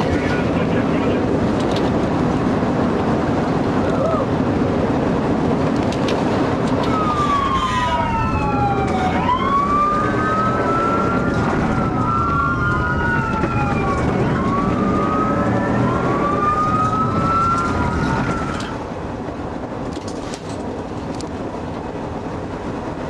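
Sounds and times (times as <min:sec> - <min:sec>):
police sirens wailing: 0:00.0 - 0:18.9
car road and engine rumble: 0:00.0 - 0:23.0.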